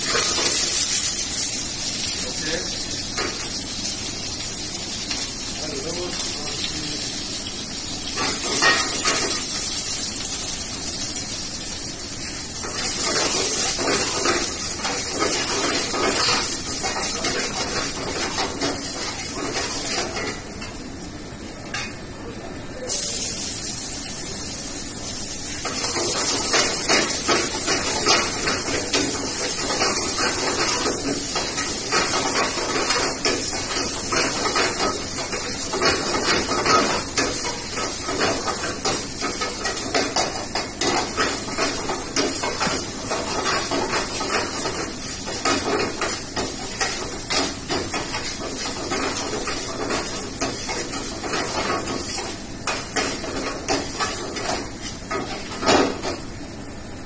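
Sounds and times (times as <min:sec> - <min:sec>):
hiss of frying: 0:00.0 - 0:57.0.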